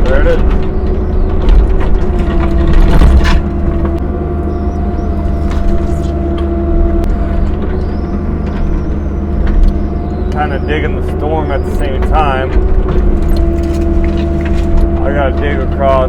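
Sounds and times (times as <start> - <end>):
excavator bucket knocking and scraping: 0.0 - 16.0
excavator diesel engine under load: 0.0 - 16.0
machine whine: 0.0 - 16.0.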